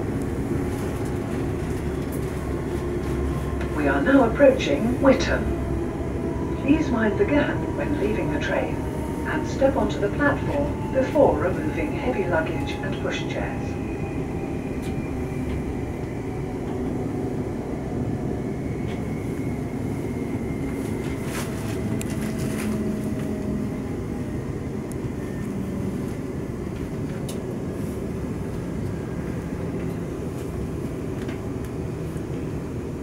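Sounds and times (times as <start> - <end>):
train running rumble: 0.0 - 33.0.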